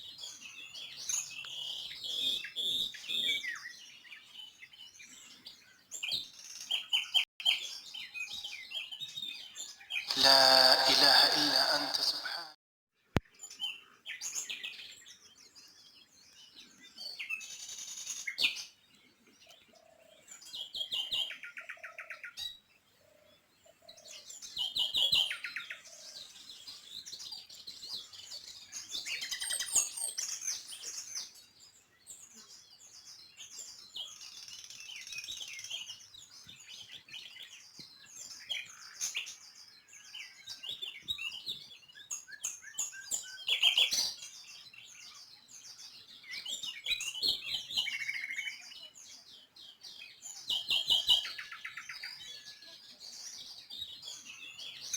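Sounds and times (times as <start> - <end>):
small birds chirping and singing: 0.0 - 12.0, 13.2 - 54.9.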